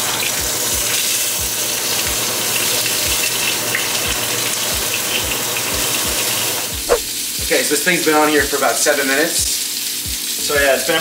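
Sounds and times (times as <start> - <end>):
steak sizzling in a hot pan: 0.0 - 11.0.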